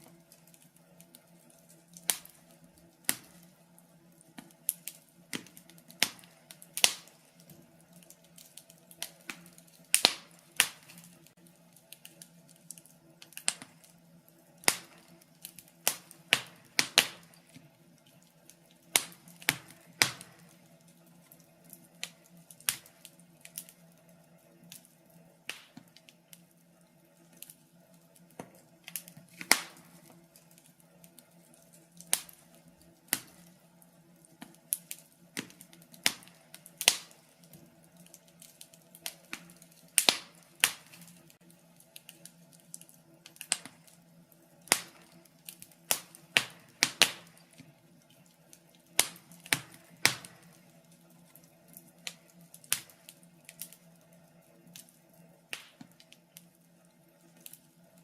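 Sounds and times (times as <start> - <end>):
faint steady hum: 0.0 - 58.0
wood fire crackling and popping: 0.0 - 58.0.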